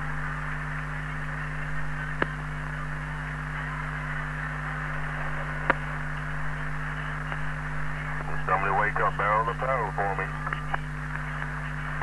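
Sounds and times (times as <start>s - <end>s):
low mains hum: 0.0s - 12.0s
radio channel hiss: 0.0s - 12.0s.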